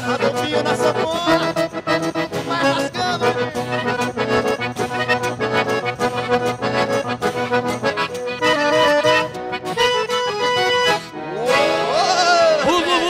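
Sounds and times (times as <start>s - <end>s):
accordion solo: 0.0s - 13.0s
band playing: 0.0s - 13.0s.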